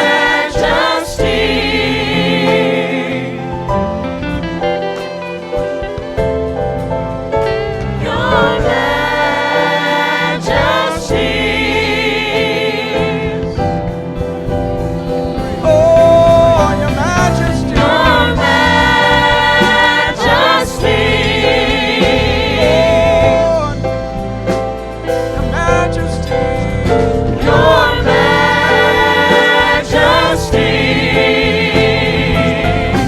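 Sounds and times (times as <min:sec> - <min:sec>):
gospel choir singing: 0:00.0 - 0:33.0
instrumental accompaniment: 0:00.0 - 0:33.0.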